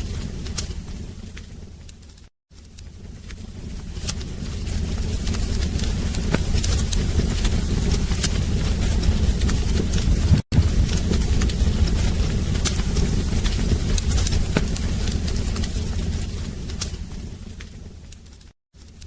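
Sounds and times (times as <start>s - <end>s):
fire low rumble: 0.0s - 19.0s
wood fire crackling and popping: 0.0s - 19.0s.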